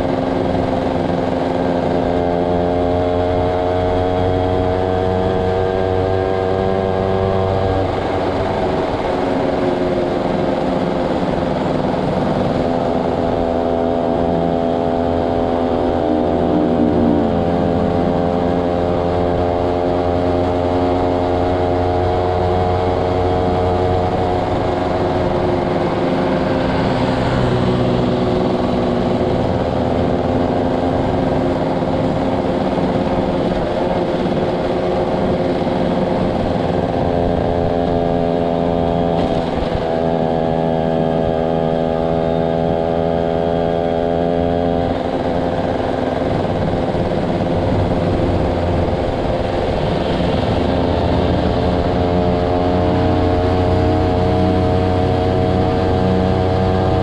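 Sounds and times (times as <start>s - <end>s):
motorcycle engine cruising: 0.0s - 57.0s
road and air noise: 0.0s - 57.0s.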